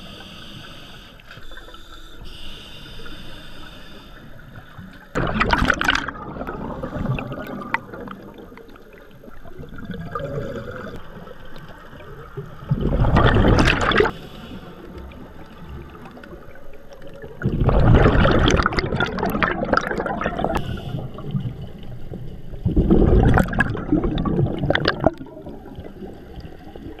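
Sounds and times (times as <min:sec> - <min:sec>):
regulator bubbles gurgling underwater: 0:00.0 - 0:27.0
underwater water noise: 0:00.0 - 0:27.0.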